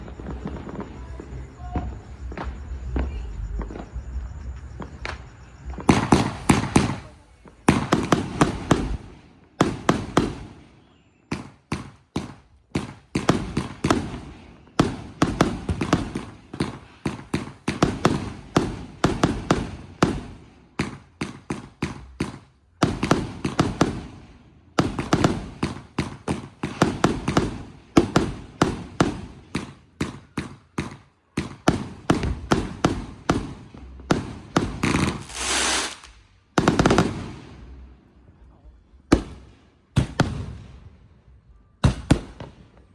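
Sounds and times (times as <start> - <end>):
fireworks bangs in volleys: 0.0 - 37.9, 39.1 - 41.0, 41.8 - 42.9.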